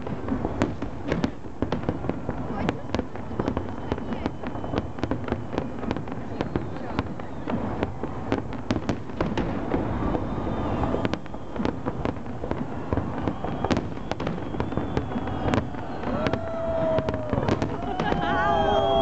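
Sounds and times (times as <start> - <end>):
fireworks bangs and crackles: 0.0 - 19.0
sharp fireworks cracks: 0.0 - 19.0.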